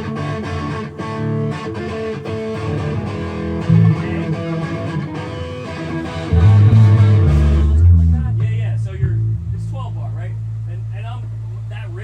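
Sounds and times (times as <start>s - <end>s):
guitar blues riff: 0.0s - 11.7s.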